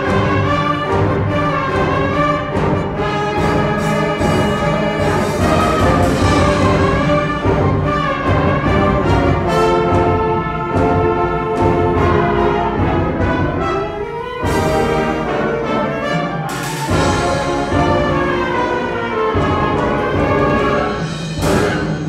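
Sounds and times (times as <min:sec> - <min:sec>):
wind band playing brass chords: 0:00.0 - 0:22.0.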